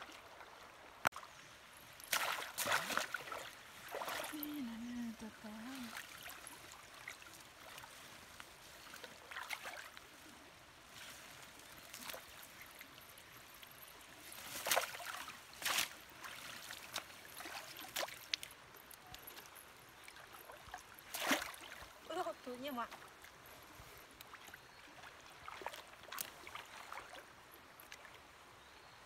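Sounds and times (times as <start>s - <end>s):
river water sloshing and splashing: 0.0s - 29.0s.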